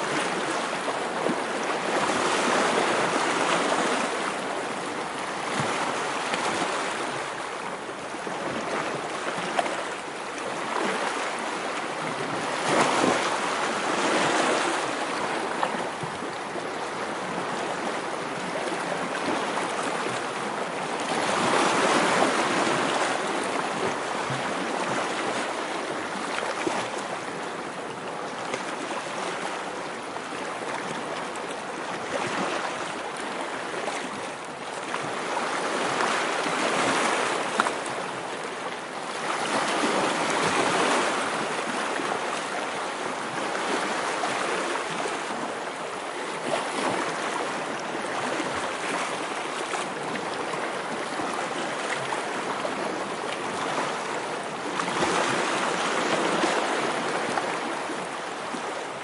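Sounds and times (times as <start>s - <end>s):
sea waves washing ashore: 0.0s - 59.0s.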